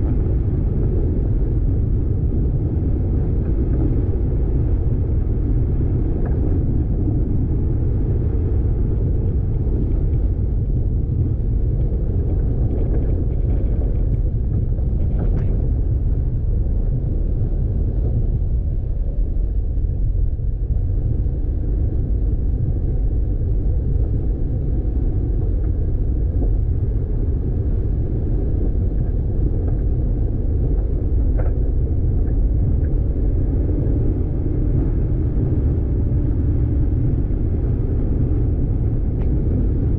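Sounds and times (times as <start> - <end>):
vehicle rumble on dirt road: 0.0 - 39.9.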